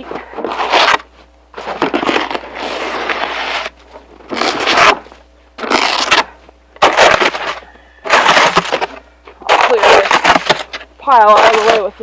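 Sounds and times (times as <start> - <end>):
snow shovel scraping snow: 0.0 - 12.0.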